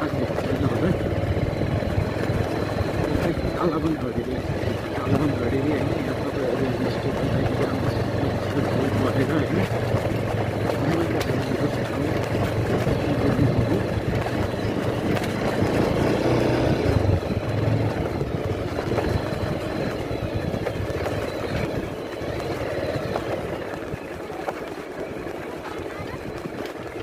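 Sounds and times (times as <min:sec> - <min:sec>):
motor scooter engine running: 0:00.0 - 0:27.0
wind and road noise: 0:00.0 - 0:27.0.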